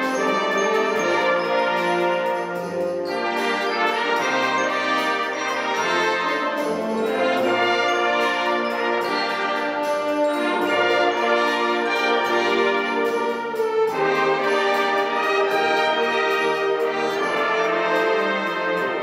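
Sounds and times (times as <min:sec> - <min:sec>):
steady ticking beat: 0:00.0 - 0:19.0
wind band playing: 0:00.0 - 0:19.0.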